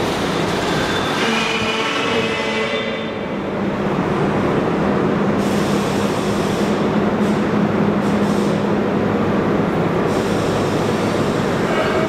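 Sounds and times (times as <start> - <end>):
continuous rushing noise: 0.0 - 12.0
train equipment low hum: 0.0 - 12.0.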